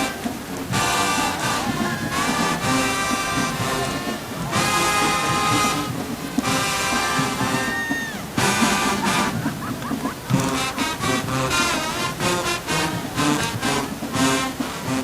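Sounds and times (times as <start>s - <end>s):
brass horns: 0.0s - 15.0s
drumline: 0.0s - 15.0s.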